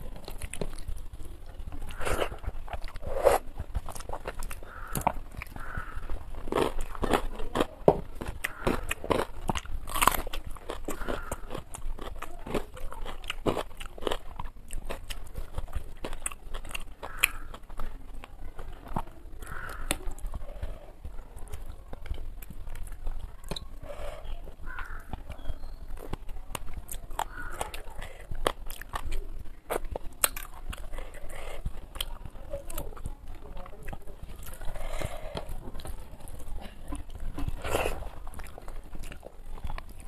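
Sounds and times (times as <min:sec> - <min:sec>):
chewing with mouth clicks: 0:00.0 - 0:40.0
small crunches: 0:00.0 - 0:40.0.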